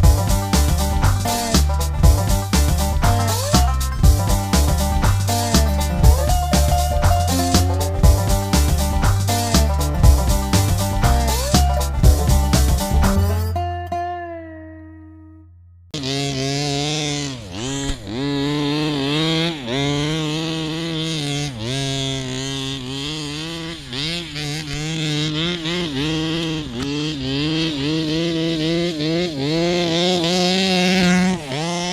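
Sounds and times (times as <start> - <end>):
model car engine revving: 0.0 - 13.6, 16.0 - 31.9.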